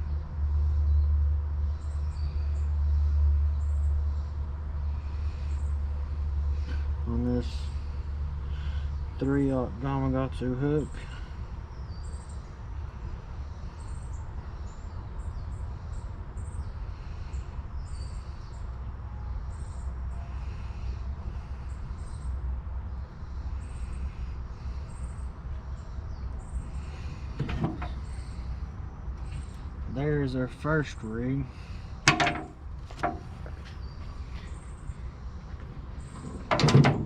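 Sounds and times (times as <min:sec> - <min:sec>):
birds chirping: 0:01.7 - 0:37.0.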